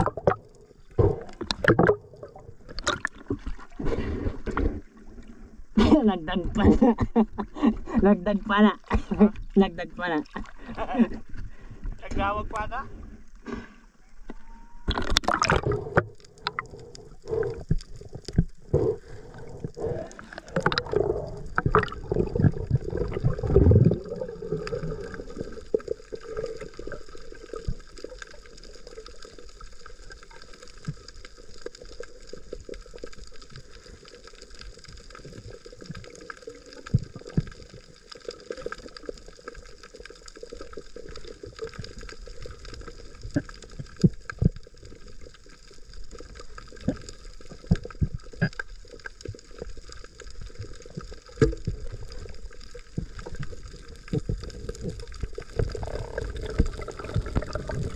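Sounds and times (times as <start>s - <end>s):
water splashing and gurgling: 0.0s - 57.9s.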